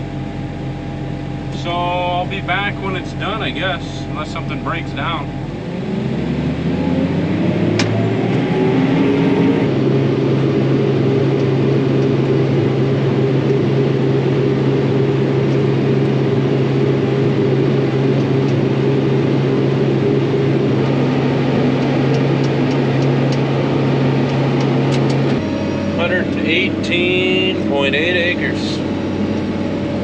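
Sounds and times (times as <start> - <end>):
engine droning inside cab: 0.0 - 30.0.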